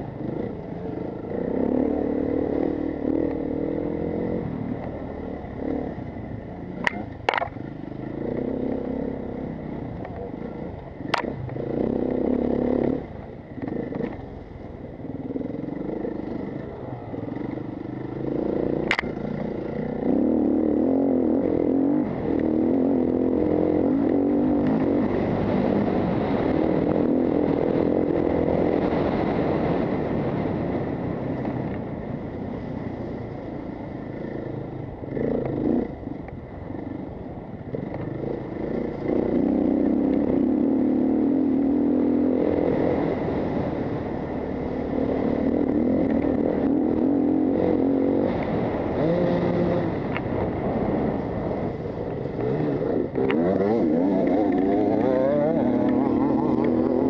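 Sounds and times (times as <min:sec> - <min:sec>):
dirt motorcycle engine revving: 0:00.0 - 0:36.9, 0:37.7 - 0:57.0
gravel noise: 0:00.0 - 0:57.0
wind noise: 0:00.0 - 0:57.0.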